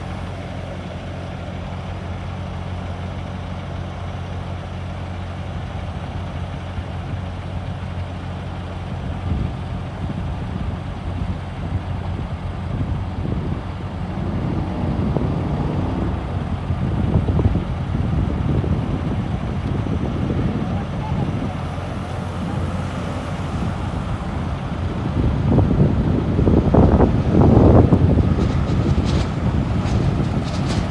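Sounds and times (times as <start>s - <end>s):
truck engine running: 0.0s - 30.9s.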